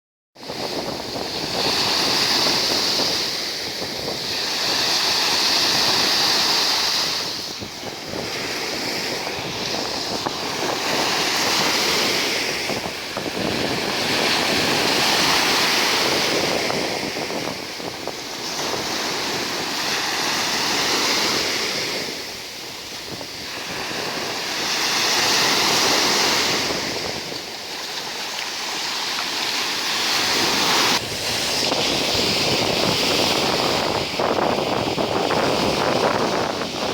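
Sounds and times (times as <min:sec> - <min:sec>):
surf washing onto shore: 0:00.4 - 0:36.9.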